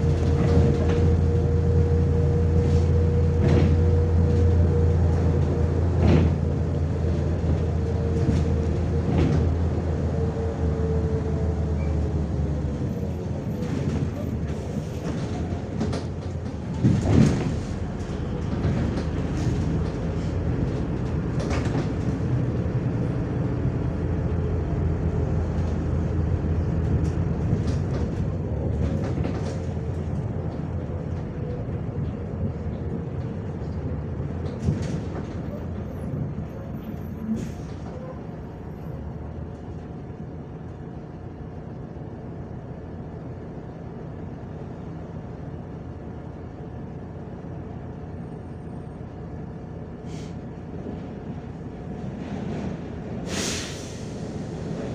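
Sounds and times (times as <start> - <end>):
bus engine and road rumble: 0.0 - 54.9
bus engine idling: 0.0 - 54.9.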